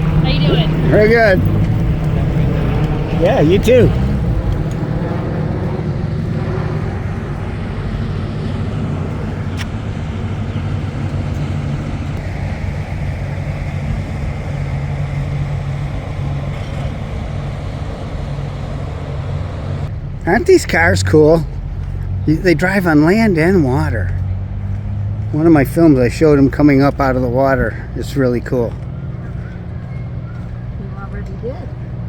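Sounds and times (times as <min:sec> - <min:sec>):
car engine droning: 0:00.0 - 0:32.0.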